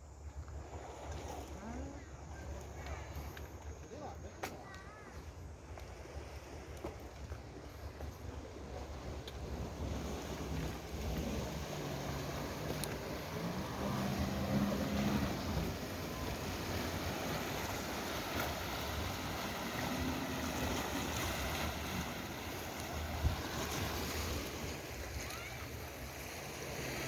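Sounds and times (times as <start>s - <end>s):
boat engine humming: 0.0s - 27.0s
wind: 0.0s - 27.0s
sea washing against breakwater: 0.6s - 27.0s.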